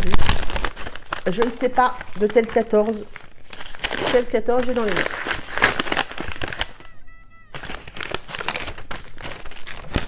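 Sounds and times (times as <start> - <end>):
wrapping paper crinkling and tearing: 0.0 - 10.0.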